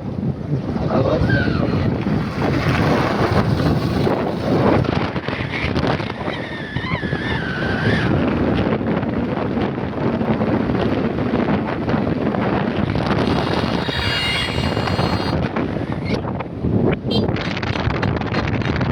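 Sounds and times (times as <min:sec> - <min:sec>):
road noise: 0:00.0 - 0:18.7
wind rushing over microphone: 0:00.0 - 0:18.9.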